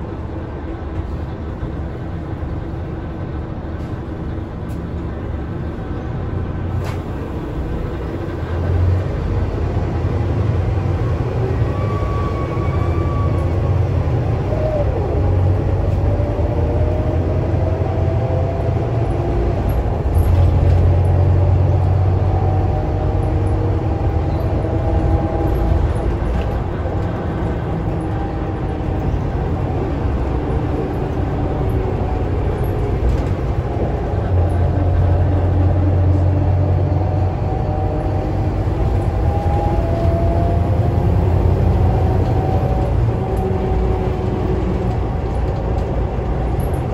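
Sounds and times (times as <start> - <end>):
bus diesel engine drone: 0.0 - 46.9
road noise: 0.0 - 46.9.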